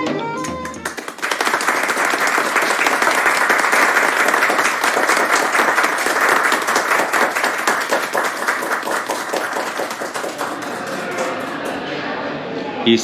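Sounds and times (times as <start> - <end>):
crowd applauding: 0.4 - 12.0.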